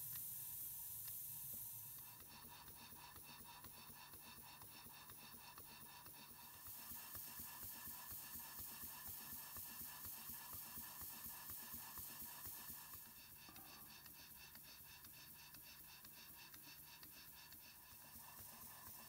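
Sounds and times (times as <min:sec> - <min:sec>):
pulsing steam hiss: 0:00.0 - 0:03.1, 0:05.7 - 0:19.0
steam engine running: 0:00.1 - 0:19.0.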